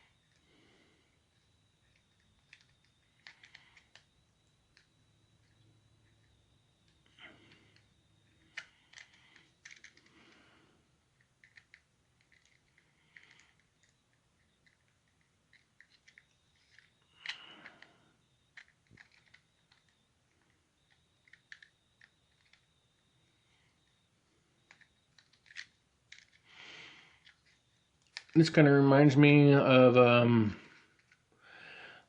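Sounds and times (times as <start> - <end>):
small clicks and ticks: 0.0 - 28.4, 30.7 - 31.3.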